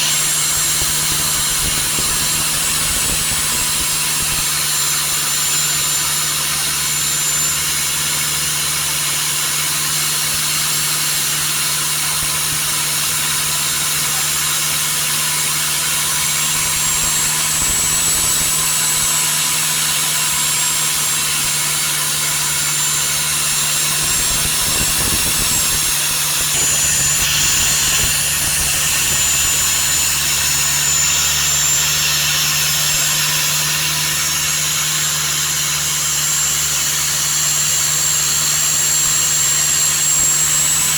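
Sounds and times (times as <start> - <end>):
boat engine running: 0.0 - 6.9, 11.8 - 40.9.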